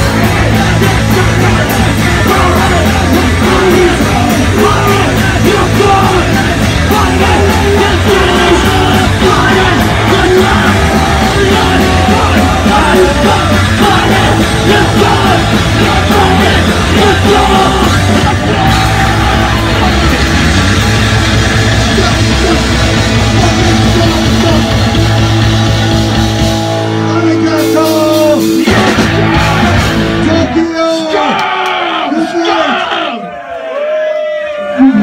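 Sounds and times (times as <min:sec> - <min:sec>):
shouted vocals: 0:00.0 - 0:26.6, 0:27.6 - 0:35.0
pounding drums: 0:00.0 - 0:30.5
live punk rock band: 0:00.0 - 0:33.0.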